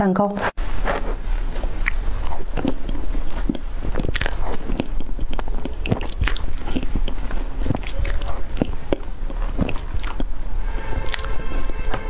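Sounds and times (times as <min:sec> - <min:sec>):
wet mouth eating sounds: 0:00.8 - 0:12.0.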